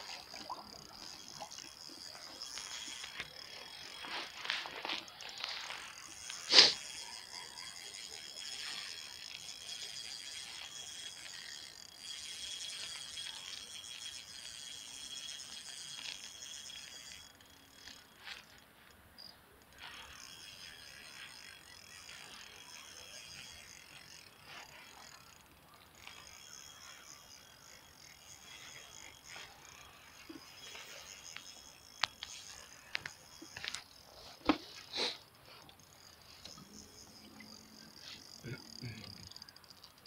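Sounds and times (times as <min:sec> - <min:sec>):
fishing reel ticking: 0:00.0 - 0:40.0.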